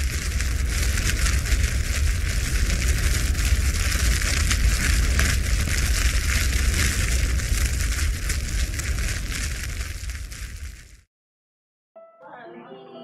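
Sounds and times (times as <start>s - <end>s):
deep rumble: 0.0s - 11.0s
crackling and hiss: 0.0s - 11.1s.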